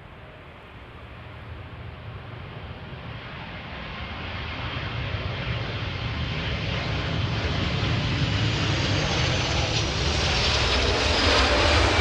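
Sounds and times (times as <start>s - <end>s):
jet engine rumble and hiss: 0.0s - 12.0s.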